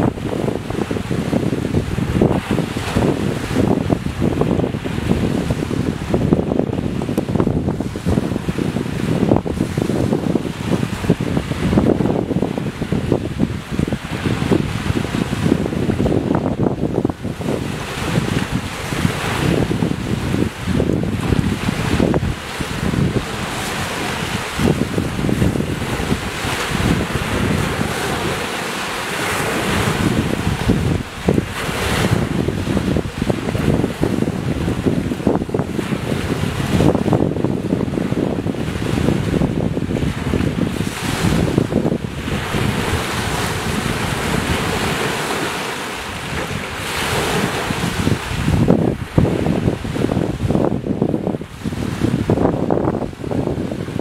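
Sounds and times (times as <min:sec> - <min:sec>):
small waves lapping at shoreline: 0:00.0 - 0:54.0
wind buffeting microphone: 0:00.0 - 0:54.0.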